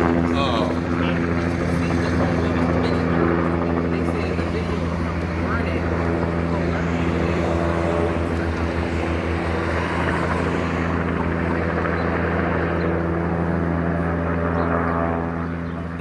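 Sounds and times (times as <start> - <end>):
helicopter flying over: 0.0 - 16.0.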